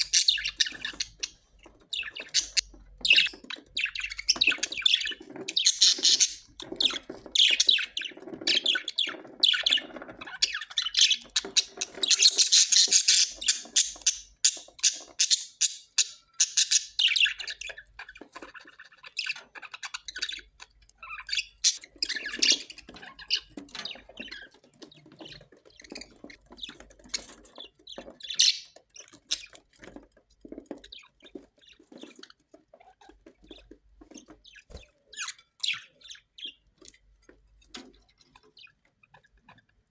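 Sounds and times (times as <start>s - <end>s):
parrots squawking and chattering: 0.0s - 30.0s, 30.6s - 36.6s.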